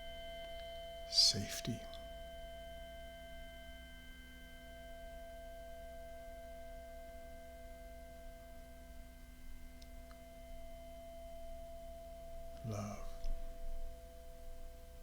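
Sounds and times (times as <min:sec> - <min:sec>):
ringing meditation drone: 0:00.0 - 0:15.0.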